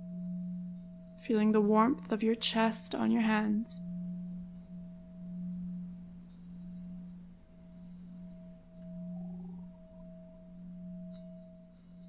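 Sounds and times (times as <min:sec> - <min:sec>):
low meditation drone: 0:00.0 - 0:12.0
higher tone: 0:01.3 - 0:11.3.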